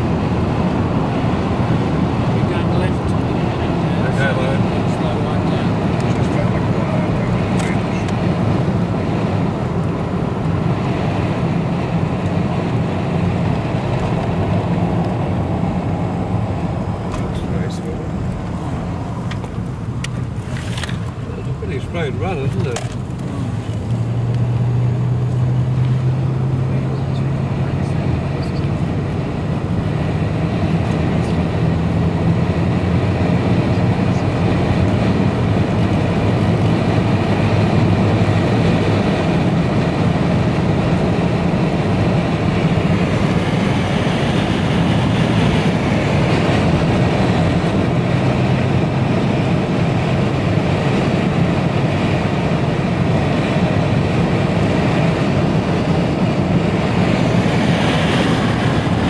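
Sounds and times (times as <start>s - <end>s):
car engine drone: 0.0s - 59.0s.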